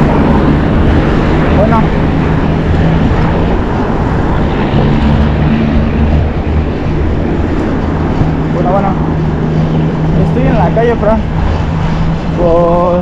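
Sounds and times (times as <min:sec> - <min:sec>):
steady low hum: 0:00.0 - 0:13.0
traffic rumble: 0:00.0 - 0:13.0.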